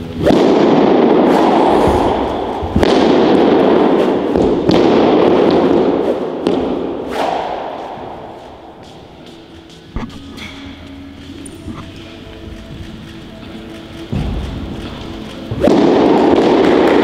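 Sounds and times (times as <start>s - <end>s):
loud steady rushing noise: 0.0s - 17.0s.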